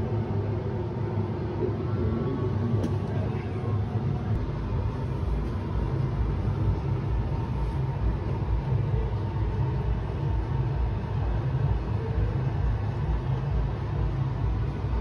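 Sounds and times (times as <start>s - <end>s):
low rumble with buffeting: 0.0s - 15.0s.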